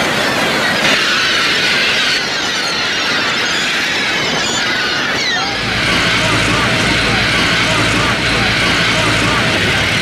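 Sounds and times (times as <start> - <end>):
gulls calling: 0.0 - 10.0.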